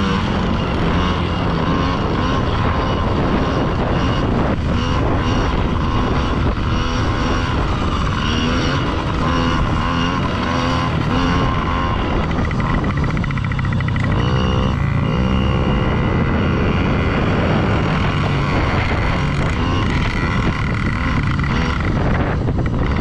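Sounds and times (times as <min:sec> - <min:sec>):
dirt bike engines revving: 0:00.0 - 0:23.0
steady rush of noise: 0:00.0 - 0:23.0.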